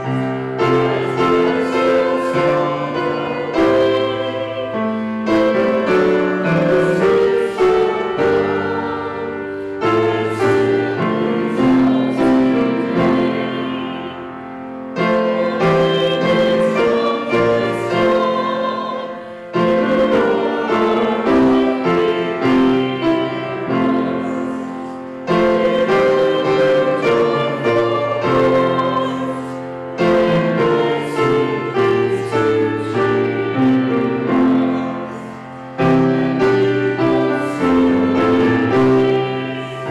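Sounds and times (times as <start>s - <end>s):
grand piano slow chords: 0.0s - 39.9s.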